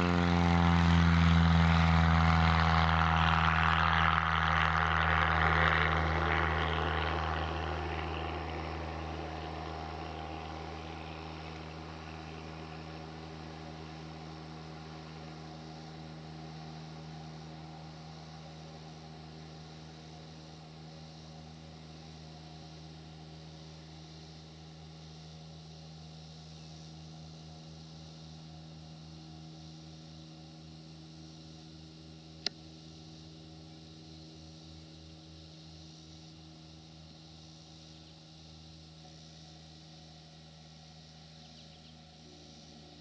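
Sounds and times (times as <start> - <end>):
distant propeller plane drone: 0.0 - 43.0.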